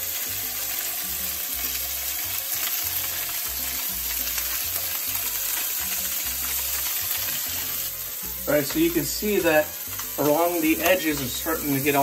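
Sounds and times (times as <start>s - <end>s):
fish sizzling in pan: 0.0s - 12.0s.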